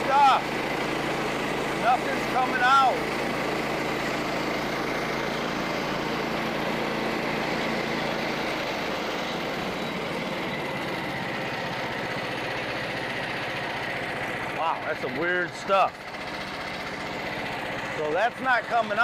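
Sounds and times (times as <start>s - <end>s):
band sawmill cutting log: 0.0s - 19.0s.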